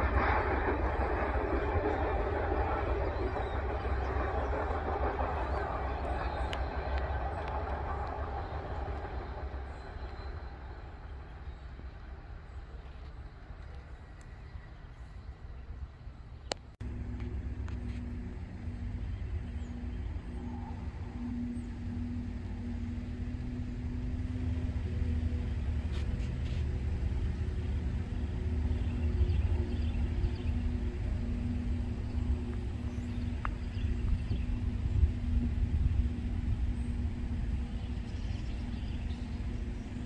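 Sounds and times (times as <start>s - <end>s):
diesel locomotive engines droning: 0.0s - 40.0s.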